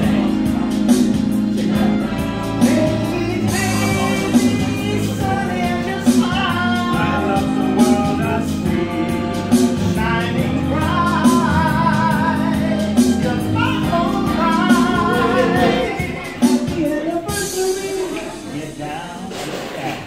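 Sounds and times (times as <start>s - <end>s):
man singing into microphone: 0.0s - 19.7s
backing track with steady beat: 0.0s - 20.0s.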